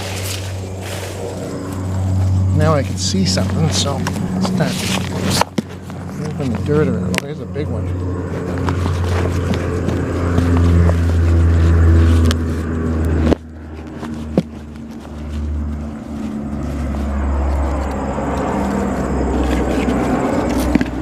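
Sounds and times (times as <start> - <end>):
light scrapes and clicks: 0.0 - 21.0
vehicle engine humming: 0.0 - 21.0.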